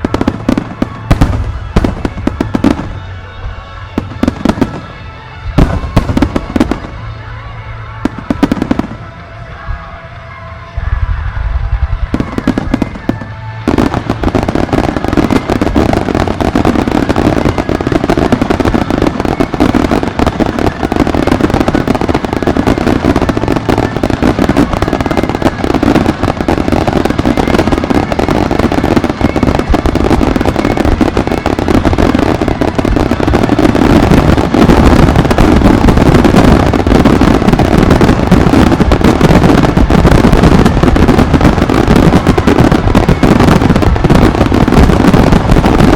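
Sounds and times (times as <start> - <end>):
fireworks exploding and crackling: 0.0 - 45.9.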